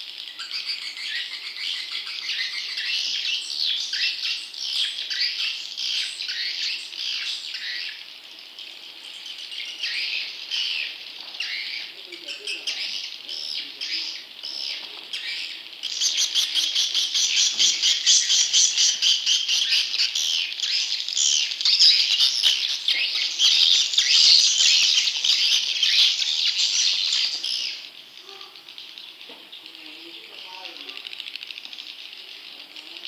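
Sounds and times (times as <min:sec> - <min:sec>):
young swiftlets twittering: 0:00.0 - 0:33.0.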